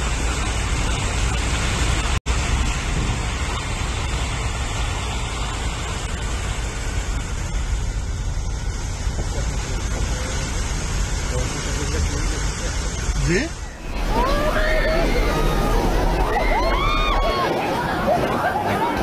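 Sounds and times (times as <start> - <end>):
vehicles driving through floodwater: 0.0 - 19.0.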